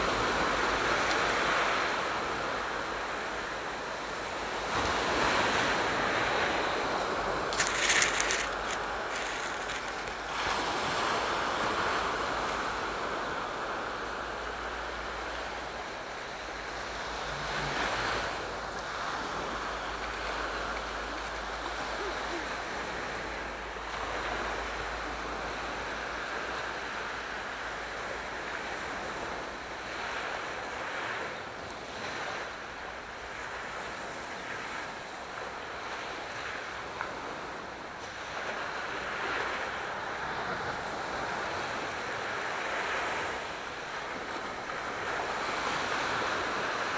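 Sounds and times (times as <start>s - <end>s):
waves breaking on shore: 0.0s - 46.9s.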